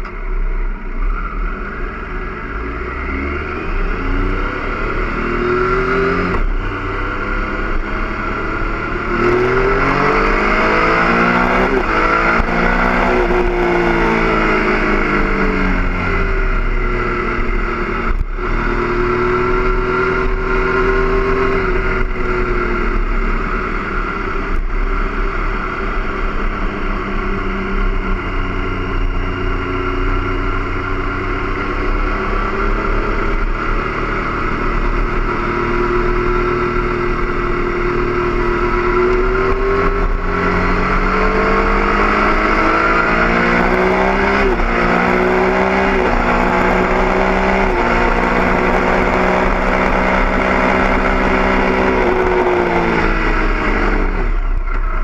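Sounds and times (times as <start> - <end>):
motorcycle engine revving: 0.9 - 55.0.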